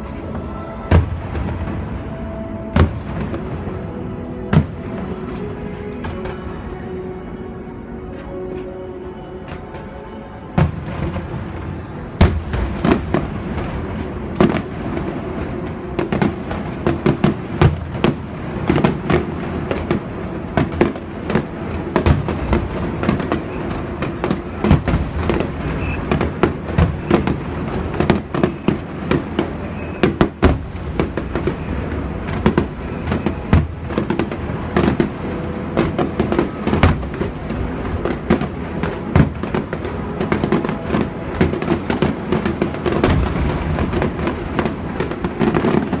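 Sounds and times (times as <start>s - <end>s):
fireworks bangs and crackling: 0.0s - 7.0s, 9.4s - 46.0s.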